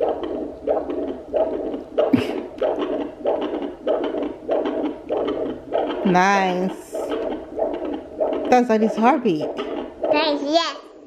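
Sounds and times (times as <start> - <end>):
heartbeat whooshing through doppler: 0.0 - 10.2.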